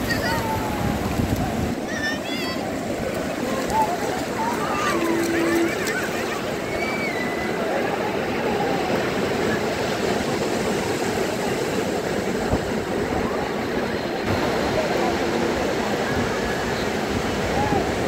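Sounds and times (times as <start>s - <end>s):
surf washing up beach: 0.0s - 18.0s.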